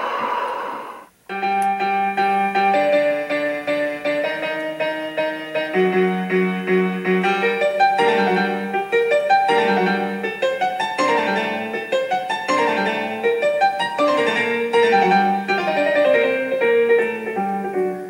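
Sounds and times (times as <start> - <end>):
piano music: 1.3 - 18.0.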